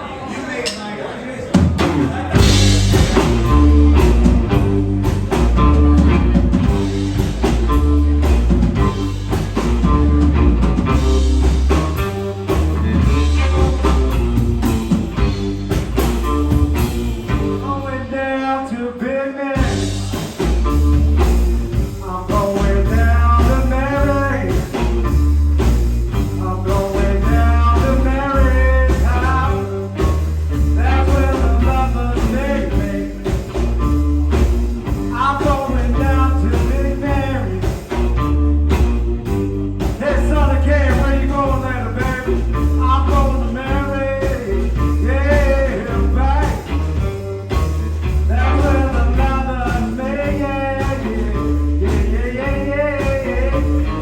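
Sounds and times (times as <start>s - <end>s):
drum kit: 1.5s - 17.9s, 19.6s - 54.0s
electric bass: 1.6s - 54.0s
electric guitar: 1.6s - 54.0s.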